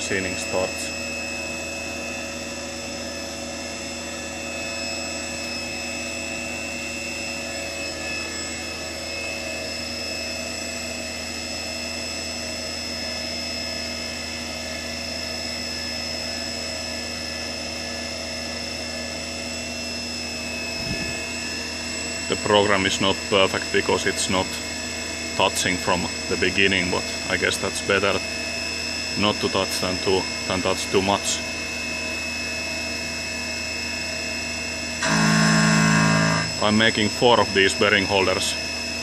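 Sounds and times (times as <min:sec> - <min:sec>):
milling spindle hum and whine: 0:00.0 - 0:39.0.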